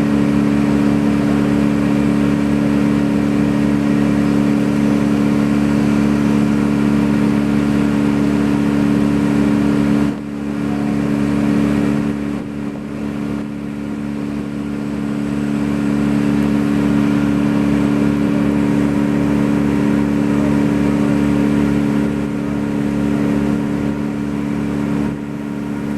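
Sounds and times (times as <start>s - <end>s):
motor running at high speed: 0.0s - 25.9s.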